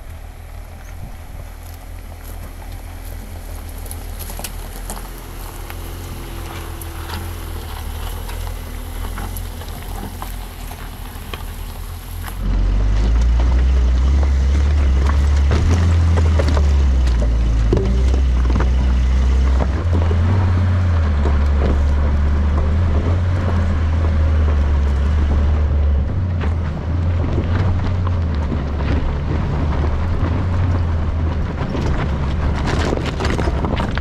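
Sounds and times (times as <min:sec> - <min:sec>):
car engine low rumble: 0:00.0 - 0:34.0
stones clicking under tyres: 0:00.0 - 0:34.0
tyres crunching on gravel: 0:00.0 - 0:34.0.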